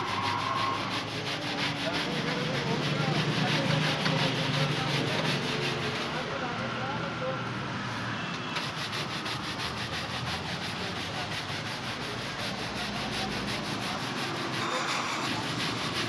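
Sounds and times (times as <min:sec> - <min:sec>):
fast rhythmic scraping: 0:00.0 - 0:06.4, 0:08.6 - 0:16.0.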